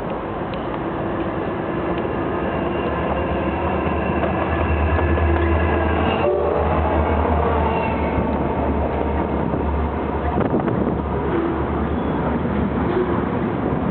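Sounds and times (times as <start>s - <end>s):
locomotive engine rumbling: 0.0s - 13.9s.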